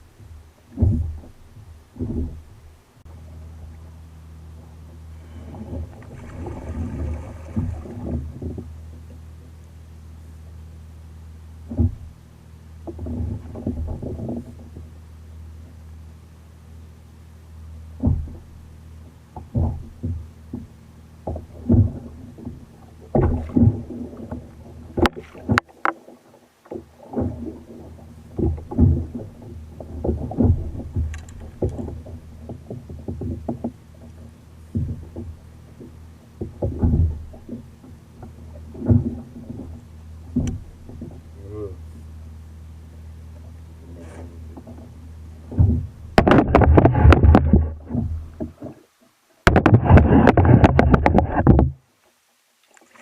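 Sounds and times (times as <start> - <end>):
steady low hum: 0.0 - 52.5
water sloshing against hull: 0.0 - 53.0.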